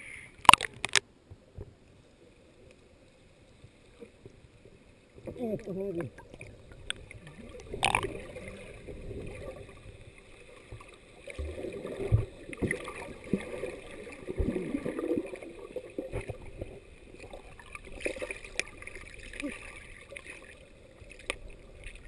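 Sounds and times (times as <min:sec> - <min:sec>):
underwater moving water gurgling: 0:00.0 - 0:22.0.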